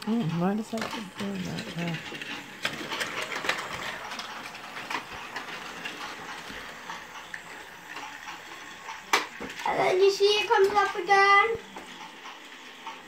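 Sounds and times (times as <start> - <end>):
light clicks of toy train: 0.0 - 13.0
toy train motor whir: 0.0 - 13.0.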